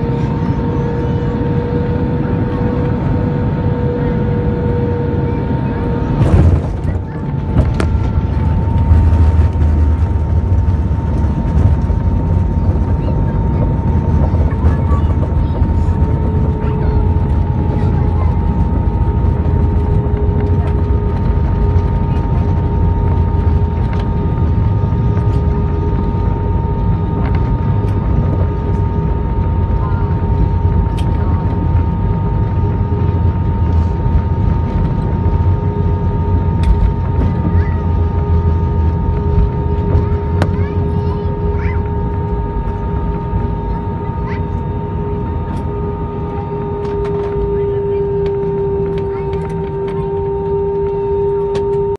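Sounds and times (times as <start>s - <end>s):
jet engines rumbling and whining: 0.0s - 51.9s.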